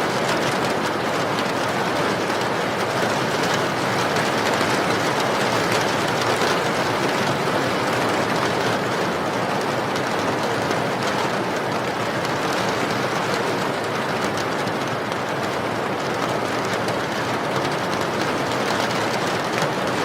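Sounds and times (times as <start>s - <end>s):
raindrops pattering: 0.1s - 20.0s
steady rain hiss: 0.3s - 19.9s.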